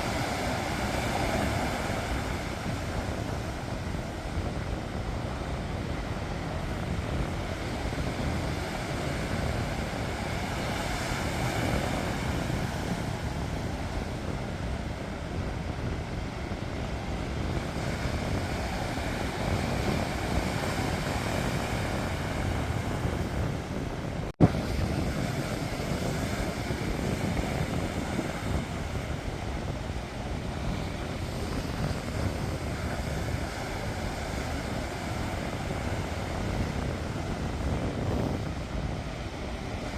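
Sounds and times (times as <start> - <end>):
sea waves breaking: 0.0 - 39.9
wind on microphone: 0.0 - 39.9.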